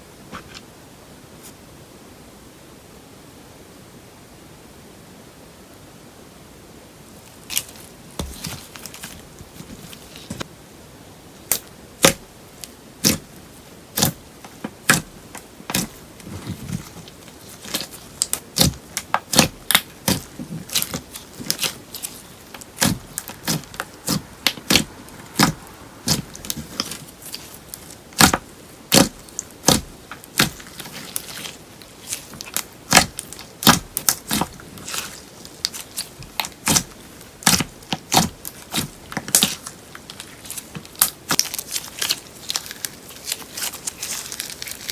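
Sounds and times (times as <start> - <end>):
slime and clay kneaded by hand: 7.3 - 10.5, 11.4 - 44.9.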